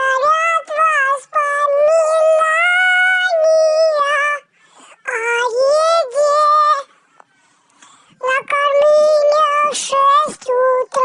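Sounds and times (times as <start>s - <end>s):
high-pitched voice singing: 0.0s - 6.9s, 8.2s - 11.0s.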